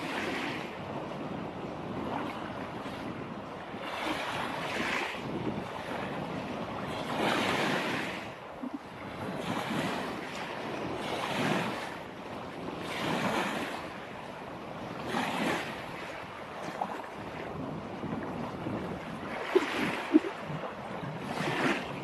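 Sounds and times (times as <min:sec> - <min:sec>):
surf washing onto shore: 0:01.7 - 0:22.0.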